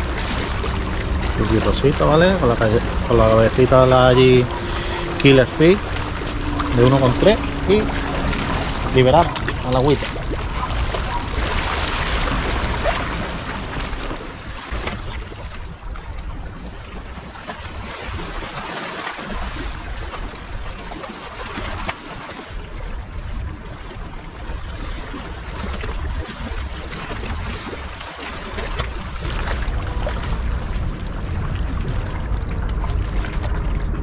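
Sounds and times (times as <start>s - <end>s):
sea waves washing: 0.0s - 34.0s.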